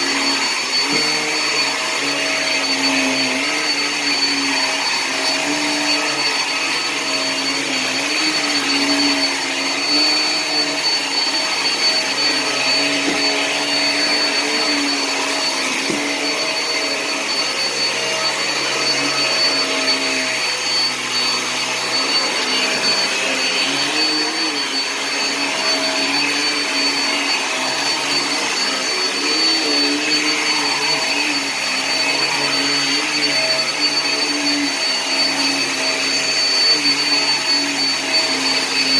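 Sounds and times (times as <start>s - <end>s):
vacuum cleaner on carpet: 0.0s - 38.9s.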